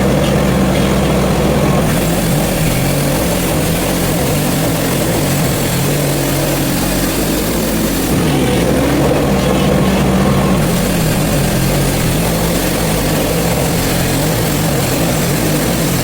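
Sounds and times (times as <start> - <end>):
sawmill engine running under load: 0.0 - 16.0
band blade cutting log: 0.1 - 16.0.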